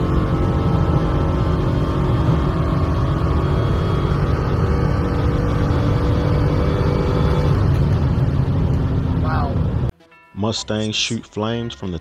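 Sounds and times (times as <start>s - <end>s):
car engine drone at full throttle: 0.0s - 9.9s
wind and road noise: 0.0s - 10.0s.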